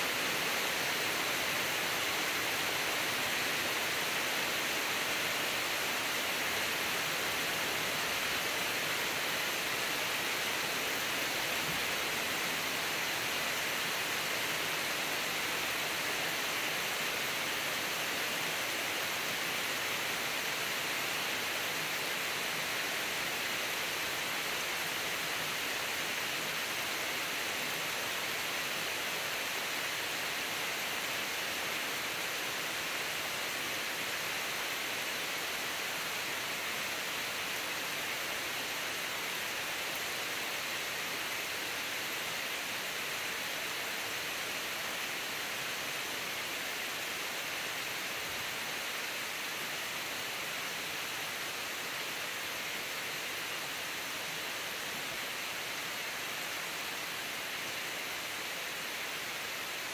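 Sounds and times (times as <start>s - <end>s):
steady rain on trees: 0.0s - 59.9s.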